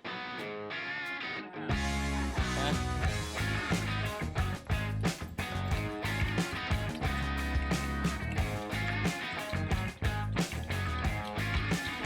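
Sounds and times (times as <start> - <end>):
guitar background music: 0.0 - 12.0
heavy bass part: 1.7 - 12.0.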